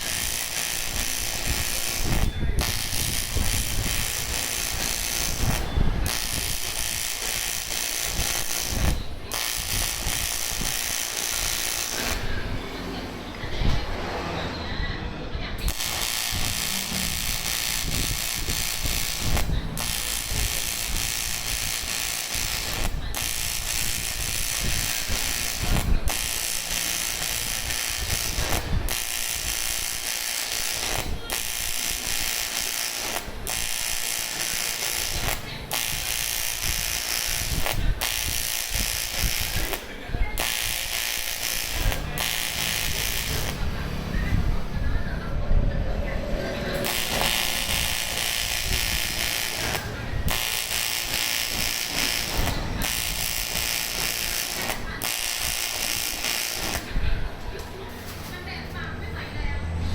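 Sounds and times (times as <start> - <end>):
welding arc crackling buzz: 0.0 - 14.3, 15.6 - 44.8, 46.6 - 59.3.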